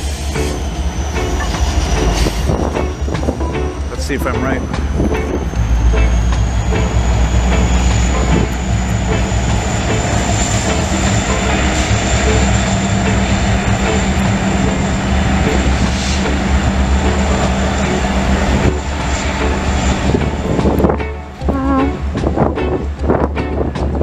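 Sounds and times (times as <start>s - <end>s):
high whine: 0.0s - 22.2s
diesel locomotive engines humming: 0.0s - 24.0s.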